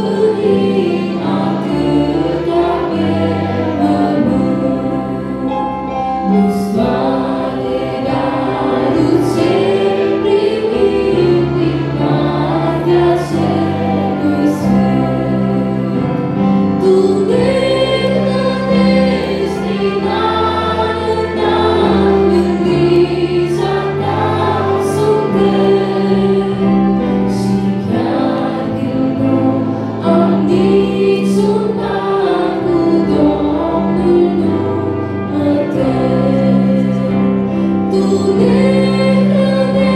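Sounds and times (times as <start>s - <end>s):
amplified instrumental accompaniment: 0.0s - 39.9s
woman singing a hymn: 0.0s - 39.9s.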